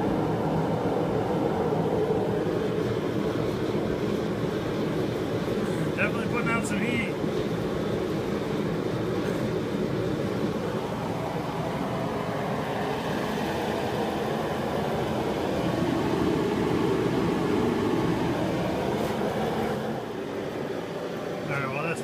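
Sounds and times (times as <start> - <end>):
forced-air heater rushing: 0.0 - 22.0.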